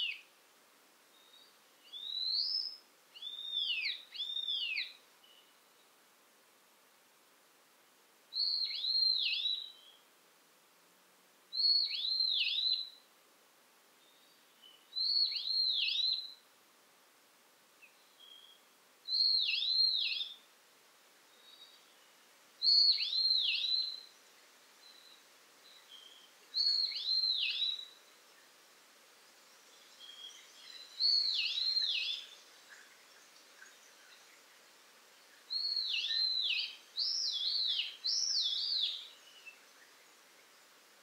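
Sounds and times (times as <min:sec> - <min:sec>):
soft forest hiss: 0:00.0 - 0:41.0.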